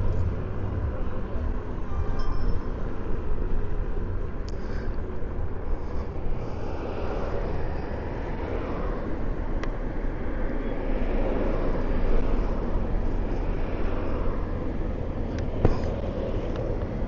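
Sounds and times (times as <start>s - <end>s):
scooter road and tyre noise: 0.0s - 17.0s.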